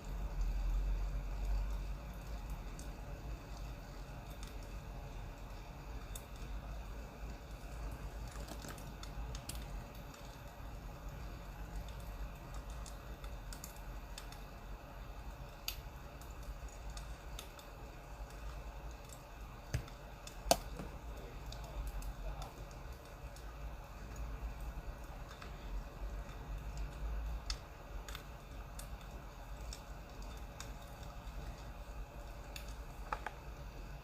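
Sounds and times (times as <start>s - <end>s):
low steady hum: 0.0s - 34.0s
wood fire crackling: 0.0s - 34.0s.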